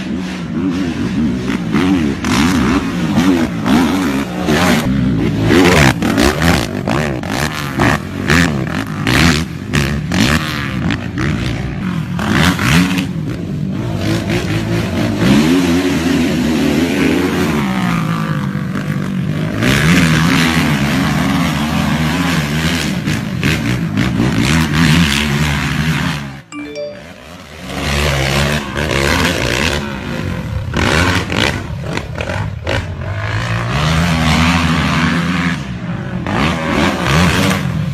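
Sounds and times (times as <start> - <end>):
quad engines revving: 0.0 - 26.4, 29.4 - 37.9.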